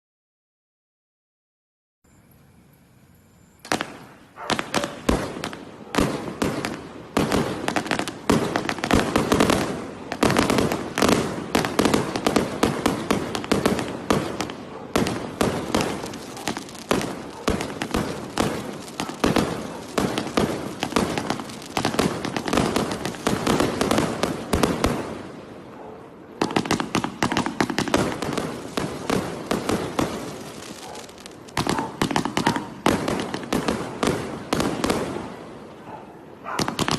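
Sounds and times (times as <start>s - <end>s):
fireworks shots and bangs: 3.7s - 25.6s, 26.4s - 35.8s, 36.5s - 36.9s.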